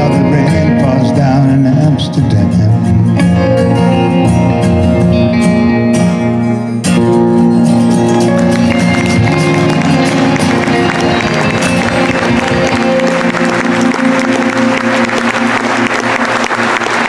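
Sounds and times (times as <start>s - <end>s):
acoustic and electric guitars playing: 0.0s - 17.0s
guitar chord ringing: 0.0s - 17.0s.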